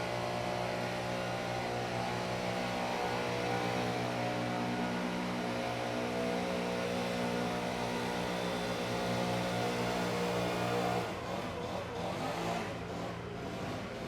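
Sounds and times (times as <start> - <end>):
leaf blowers running: 0.0 - 14.0.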